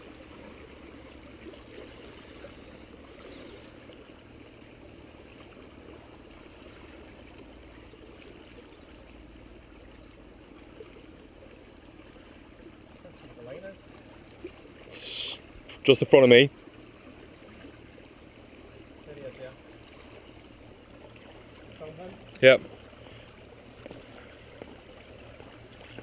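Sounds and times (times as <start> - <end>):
small waves lapping on rocks: 0.0 - 26.0.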